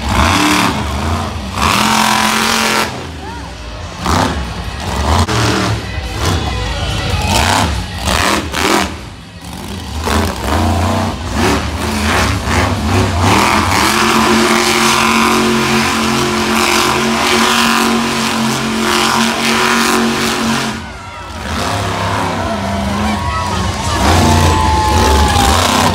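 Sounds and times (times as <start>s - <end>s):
monster truck engine revving: 0.0s - 25.9s.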